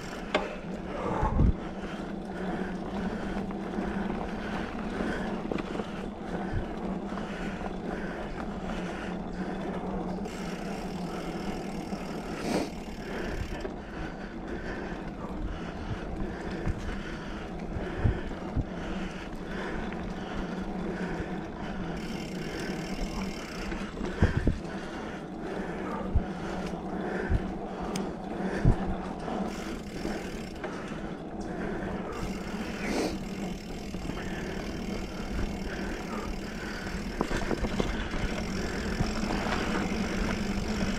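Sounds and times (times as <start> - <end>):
bike knocking and rattling: 0.0 - 40.9
bike tyres rolling on dirt: 0.0 - 40.9
low hum: 0.0 - 40.9.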